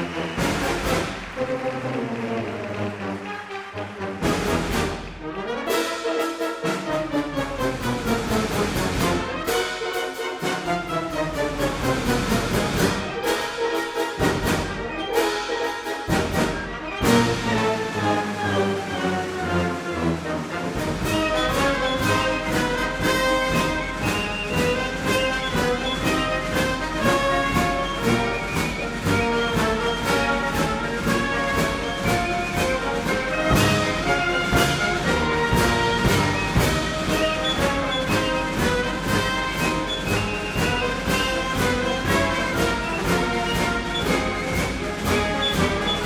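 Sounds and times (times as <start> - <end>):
orchestral music with brass: 0.0 - 46.0.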